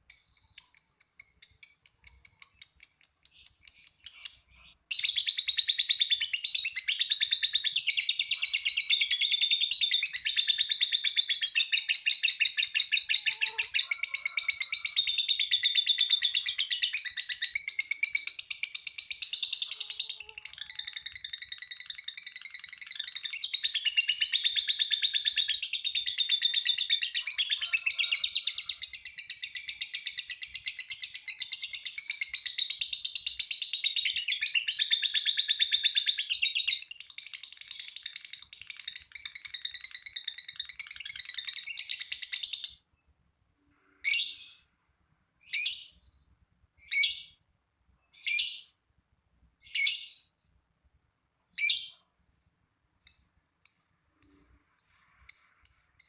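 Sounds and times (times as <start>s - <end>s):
bird chirps: 0.0s - 43.1s, 43.8s - 44.7s, 45.4s - 47.4s, 48.0s - 48.8s, 49.6s - 50.6s, 51.5s - 56.0s.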